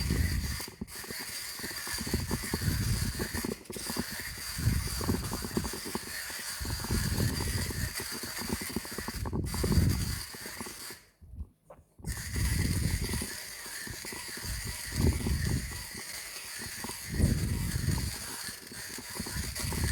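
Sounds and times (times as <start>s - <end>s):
hand coffee grinder crunching beans: 0.0s - 11.2s, 12.0s - 19.9s.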